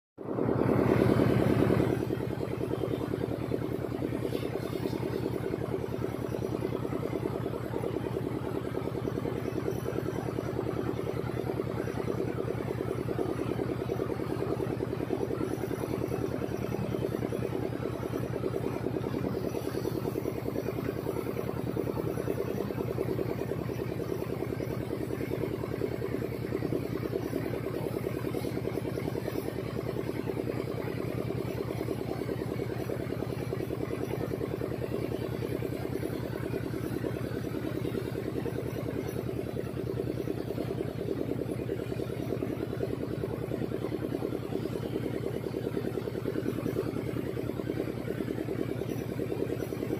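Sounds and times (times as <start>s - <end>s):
pump engine throbbing: 0.2s - 49.9s.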